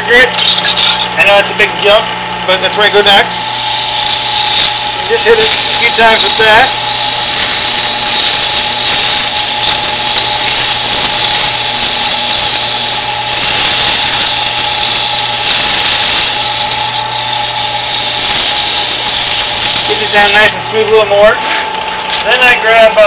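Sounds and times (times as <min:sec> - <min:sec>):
sandpaper hissing on spinning metal: 0:00.0 - 0:02.0, 0:02.7 - 0:21.3
drill press motor hum: 0:00.0 - 0:22.6.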